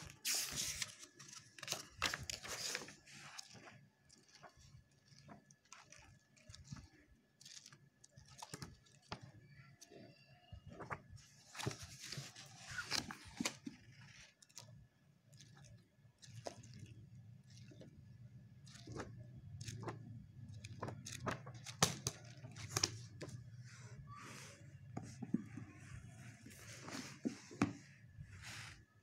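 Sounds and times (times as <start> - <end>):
book pages flipping: 0.0 - 29.0.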